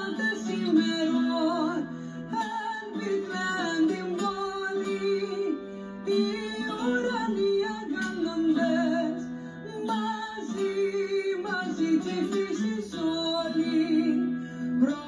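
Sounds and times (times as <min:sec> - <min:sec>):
guitar and plucked strings: 0:00.0 - 0:15.0
woman singing: 0:00.0 - 0:15.0.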